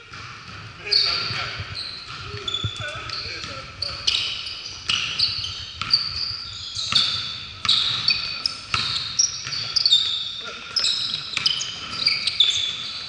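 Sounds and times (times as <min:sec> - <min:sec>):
basketball bouncing: 0:00.0 - 0:13.0
sneakers squeaking on hardwood: 0:00.0 - 0:13.0.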